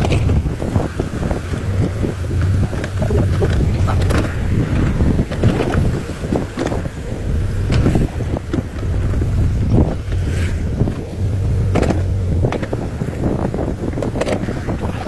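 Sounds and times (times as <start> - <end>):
knocks and crunches: 0.0 - 14.7
diesel engine low hum: 0.0 - 15.0.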